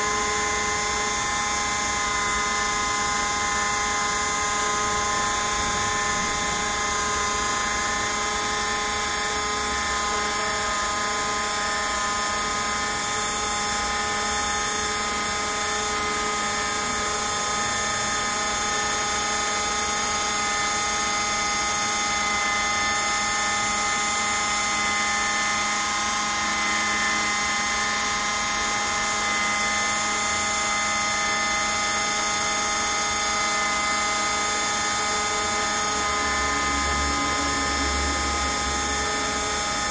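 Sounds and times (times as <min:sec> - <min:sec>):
router spindle motor whine: 0:00.0 - 0:39.9.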